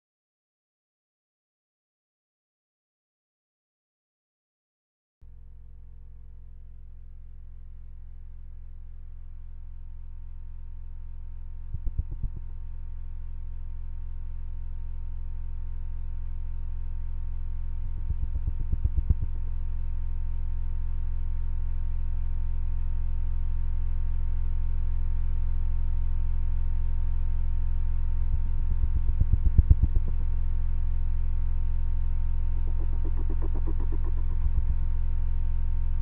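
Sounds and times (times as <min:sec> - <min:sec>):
low droning hum: 0:05.2 - 0:36.0
pulsing rumbles: 0:05.3 - 0:36.0.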